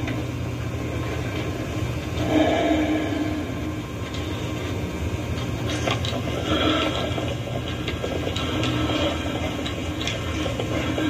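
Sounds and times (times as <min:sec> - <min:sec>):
tape hum and hiss: 0:00.0 - 0:11.0.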